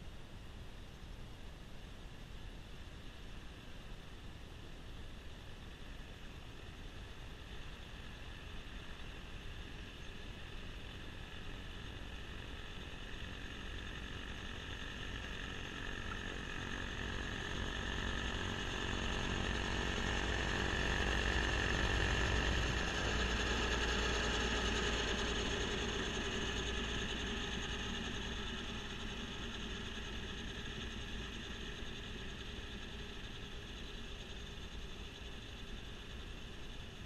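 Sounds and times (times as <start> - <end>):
snowblower mechanical whine: 2.2 - 37.0
tractor engine running: 6.4 - 37.0.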